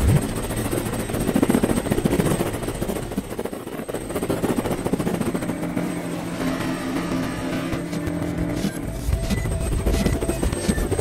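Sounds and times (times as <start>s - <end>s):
cartoon helicopter rotor chopping: 0.0s - 11.0s.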